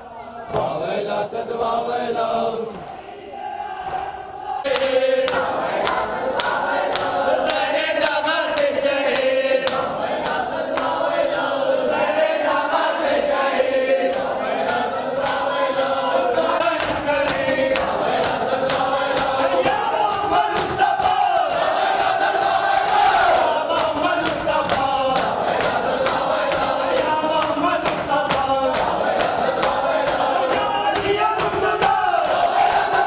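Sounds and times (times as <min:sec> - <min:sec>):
rhythmic hand slaps: 0:00.2 - 0:33.0
men chanting in chorus: 0:00.5 - 0:33.0.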